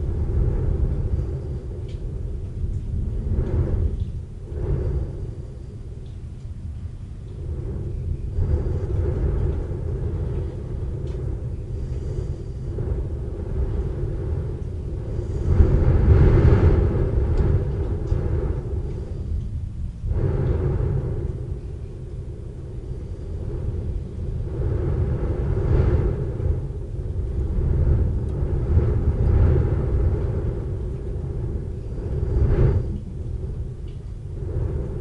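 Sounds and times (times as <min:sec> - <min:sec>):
steady rain: 0:00.0 - 0:35.0
thunder rumbling: 0:00.0 - 0:35.0.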